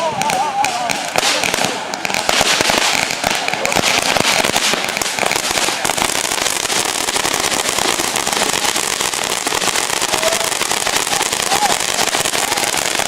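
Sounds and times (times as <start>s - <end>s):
fireworks crackling pops: 0.0s - 13.0s.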